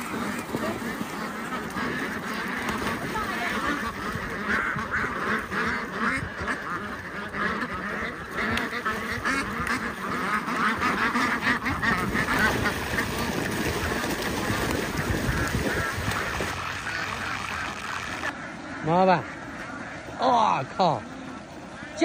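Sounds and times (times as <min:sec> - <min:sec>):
rushing water: 0:00.0 - 0:05.7, 0:06.3 - 0:18.4
ducks quacking: 0:00.0 - 0:22.0
ducks splashing: 0:00.0 - 0:22.0.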